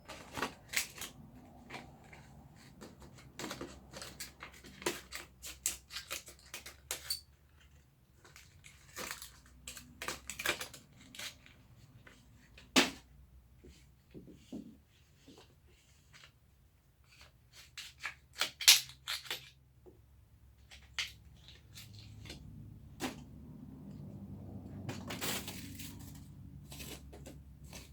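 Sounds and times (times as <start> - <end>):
hands handling parts and packaging: 0.0 - 27.9.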